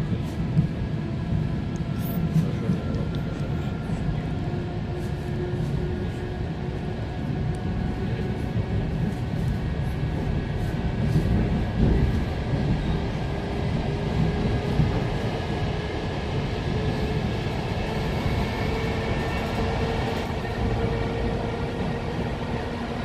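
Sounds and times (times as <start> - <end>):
train car rumbling: 0.0 - 23.0.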